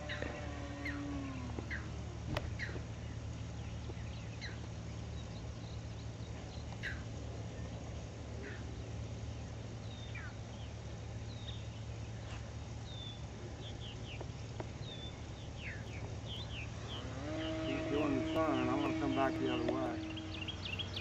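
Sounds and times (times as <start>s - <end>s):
birds chirping downward notes: 0.0s - 21.0s
steady low hum: 0.0s - 21.0s.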